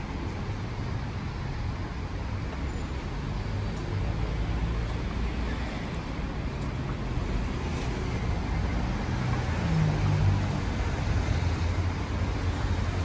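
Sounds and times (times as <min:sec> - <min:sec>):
car engines passing: 0:00.0 - 0:13.0.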